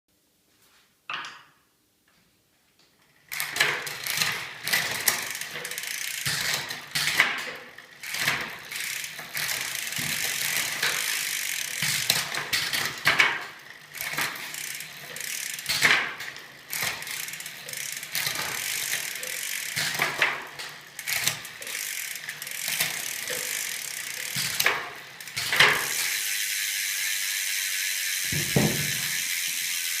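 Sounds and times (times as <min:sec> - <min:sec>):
bicycle chain and gears whirring: 0:02.9 - 0:30.0
sharp drivetrain clicks: 0:03.2 - 0:30.0.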